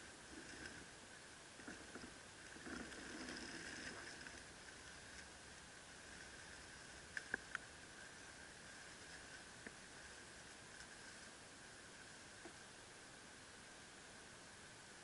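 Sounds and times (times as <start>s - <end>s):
soft rustle: 0.0s - 12.7s.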